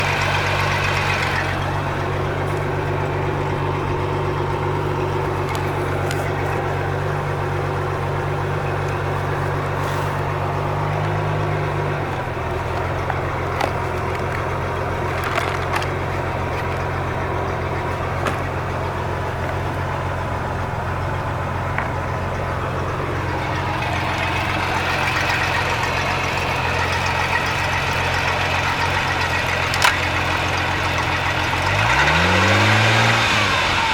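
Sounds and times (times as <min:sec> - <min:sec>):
boat engine idling: 0:00.0 - 0:33.9.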